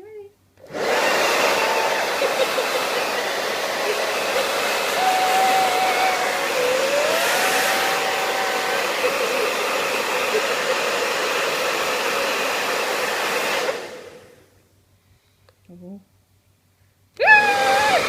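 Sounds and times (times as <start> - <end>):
hairdryer blowing: 0.6 - 14.4, 17.2 - 18.0.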